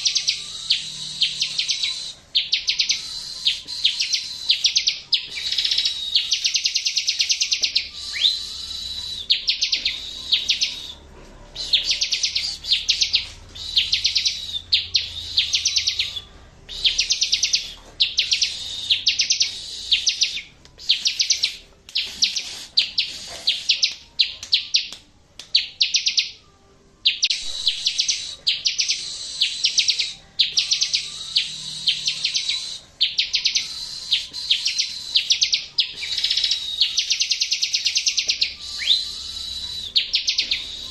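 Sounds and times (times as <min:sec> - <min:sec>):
bird trilling: 0:00.0 - 0:11.0, 0:11.6 - 0:24.9, 0:27.1 - 0:40.9
thin steady whistle: 0:00.0 - 0:24.2, 0:27.2 - 0:40.9.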